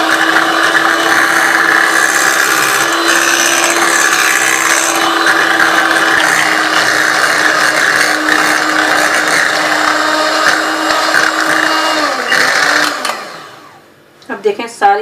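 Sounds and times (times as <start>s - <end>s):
electric hand mixer whirring: 0.0s - 13.9s.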